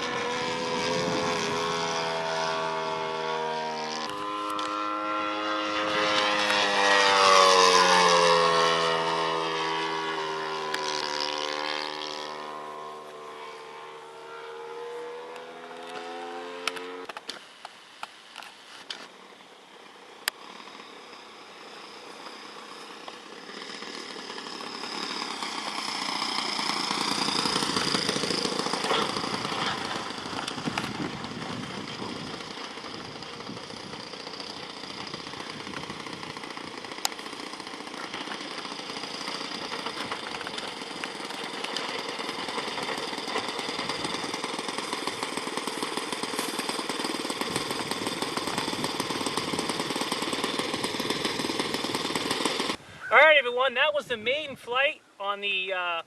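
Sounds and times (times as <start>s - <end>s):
rough engine sound: 0.0s - 17.3s, 18.4s - 52.8s
model airplane engine passing: 0.0s - 54.9s.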